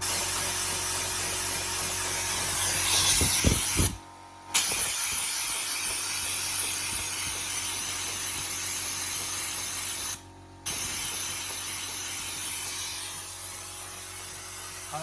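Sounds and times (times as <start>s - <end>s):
compressed air hissing: 2.4s - 4.0s, 4.6s - 15.0s.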